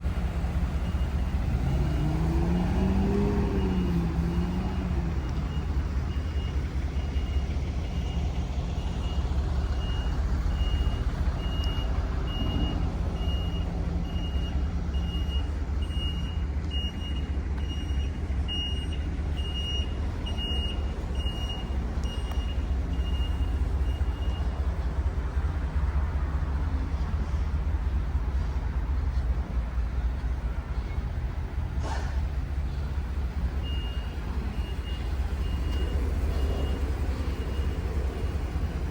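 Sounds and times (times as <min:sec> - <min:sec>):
low engine rumble: 0:00.0 - 0:38.9
truck backup alarm beeping: 0:00.0 - 0:38.9.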